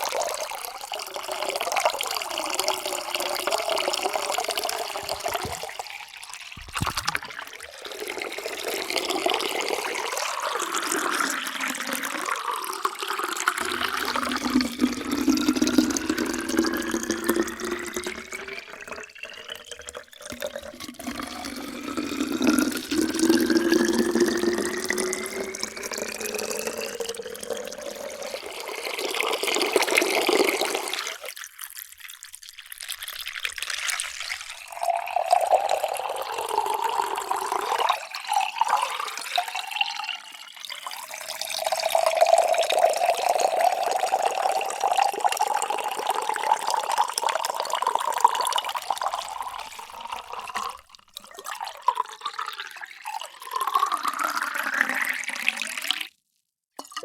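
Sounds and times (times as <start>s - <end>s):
water pouring into a container: 0.0s - 57.0s.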